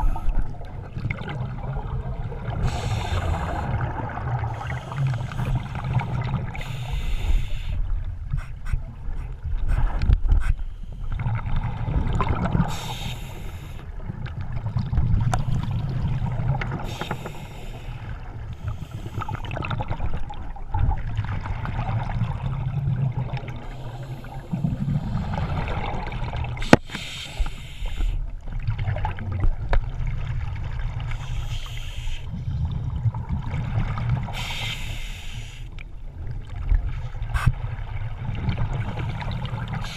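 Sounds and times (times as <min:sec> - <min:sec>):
low rumble of water: 0:00.0 - 0:39.9.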